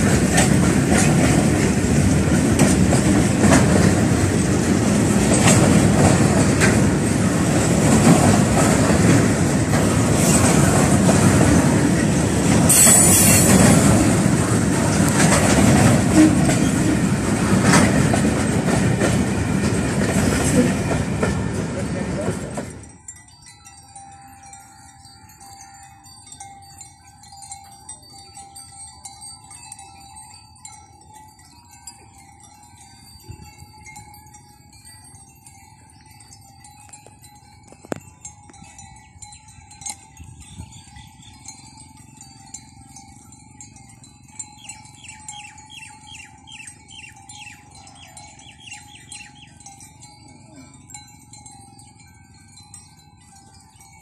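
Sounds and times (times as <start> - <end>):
bell-like chiming: 0.0 - 17.8, 18.4 - 54.0.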